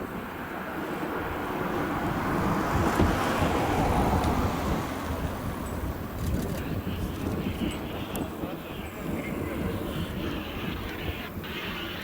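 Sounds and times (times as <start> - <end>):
jet engines roaring: 0.0 - 12.0
wind buffeting microphone: 0.0 - 12.0.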